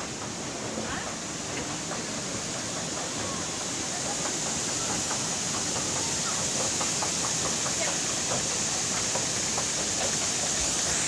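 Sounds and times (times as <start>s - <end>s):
fountain water rushing: 0.0s - 11.0s.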